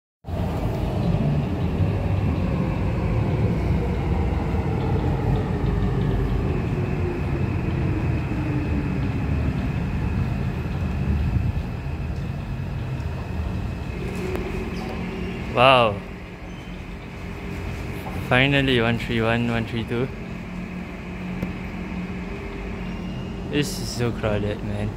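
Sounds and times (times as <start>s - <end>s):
heavy wheel rumble: 0.3s - 24.9s
steady high tone: 0.3s - 24.9s
train motor whine: 0.3s - 24.9s.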